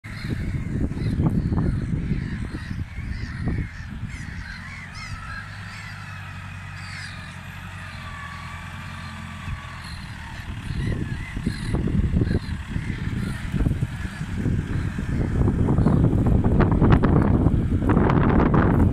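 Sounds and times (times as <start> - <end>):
gulls calling: 0.0 - 18.9
tractor engine humming: 0.0 - 18.9.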